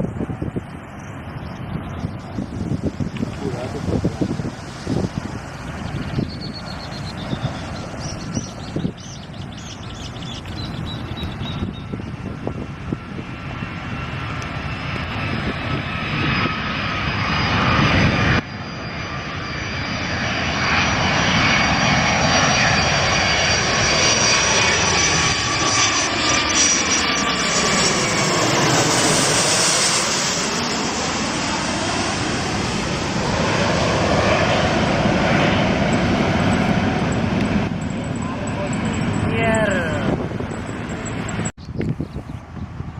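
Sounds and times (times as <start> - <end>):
jet airliner roaring overhead: 0.0 - 42.9.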